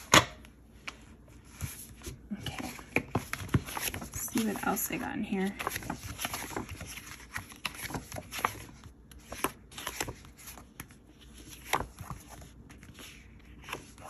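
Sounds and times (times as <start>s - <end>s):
paper pages rustling and flicking: 0.8s - 14.0s.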